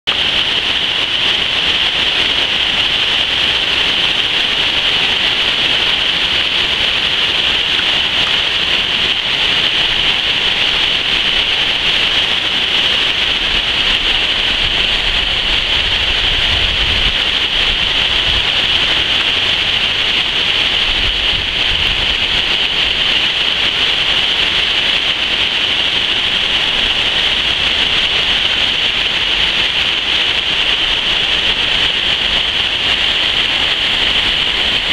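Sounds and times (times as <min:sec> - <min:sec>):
low rumbles: 0:00.1 - 0:34.9
waterfall rushing: 0:00.1 - 0:34.9.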